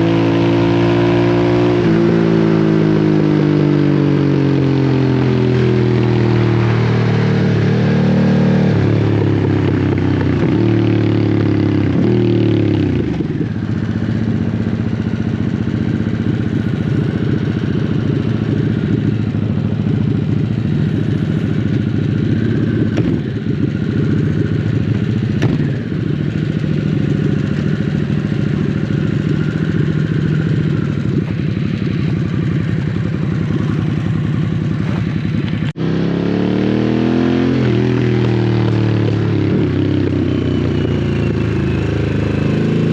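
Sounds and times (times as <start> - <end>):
motorcycle engine at low revs: 0.0 - 42.9.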